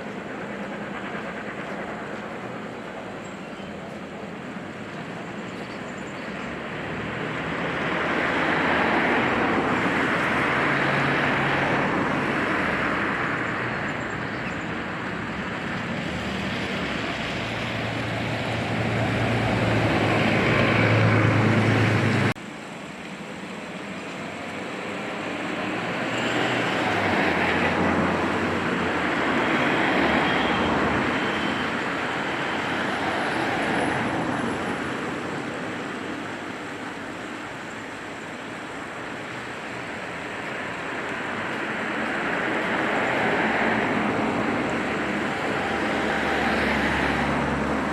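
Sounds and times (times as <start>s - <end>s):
steam train running past: 0.0s - 47.9s.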